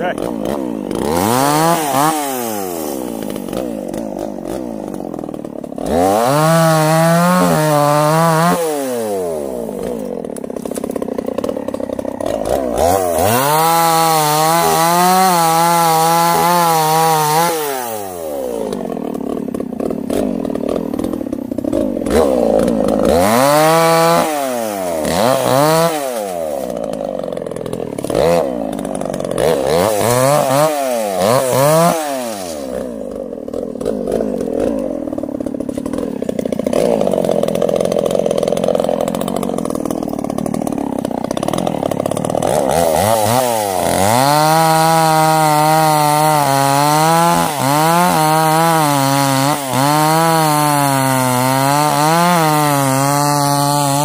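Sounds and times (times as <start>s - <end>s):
chainsaw revving and cutting log: 0.0s - 54.0s.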